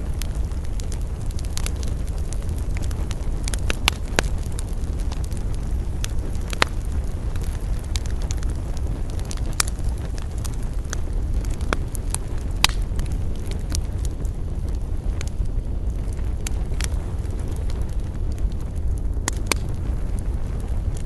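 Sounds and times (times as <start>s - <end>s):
campfire crackling and popping: 0.0s - 21.0s
low rumble of flames and wind: 0.0s - 21.0s.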